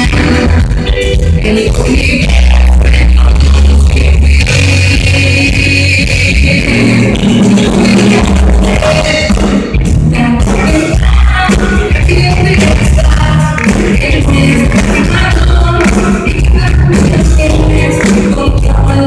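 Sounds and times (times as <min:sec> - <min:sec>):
live rock band playing: 0:00.0 - 0:19.0
woman singing: 0:00.0 - 0:19.0.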